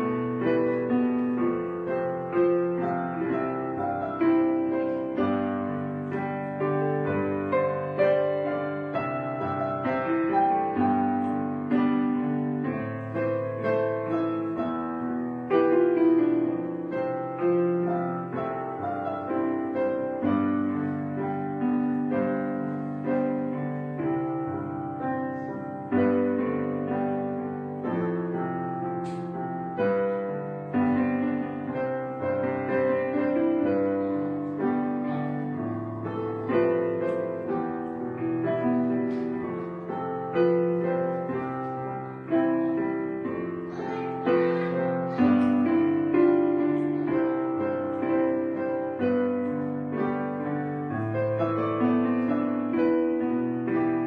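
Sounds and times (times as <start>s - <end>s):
gentle piano piece: 0.0s - 54.0s.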